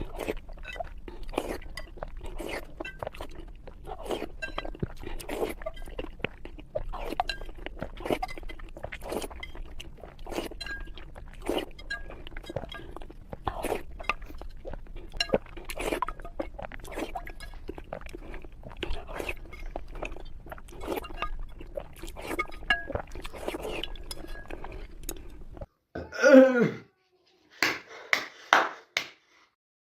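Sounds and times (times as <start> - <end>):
person chewing and crunching: 0.0 - 25.7.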